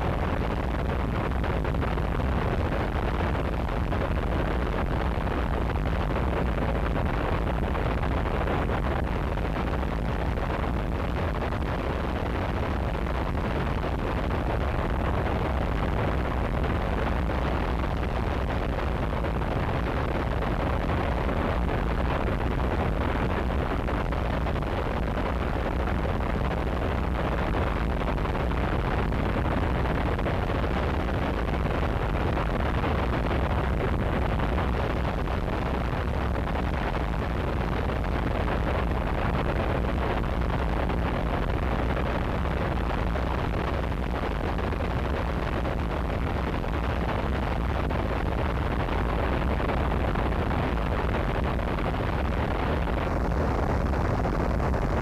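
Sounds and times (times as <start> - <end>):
deep rumble: 0.0 - 55.0
distorted static noise wall: 0.0 - 55.0.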